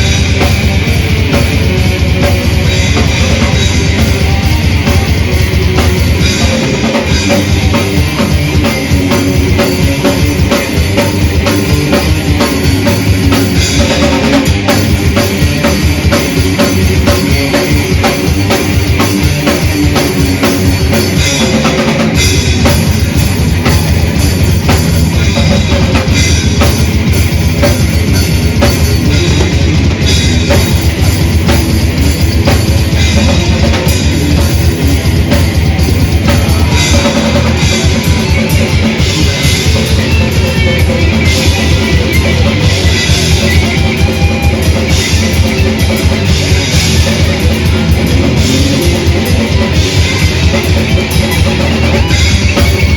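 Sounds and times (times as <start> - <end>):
bass guitar: 0.0 - 52.9
distorted electric guitars: 0.0 - 52.9
fast dense drumming: 0.0 - 52.9.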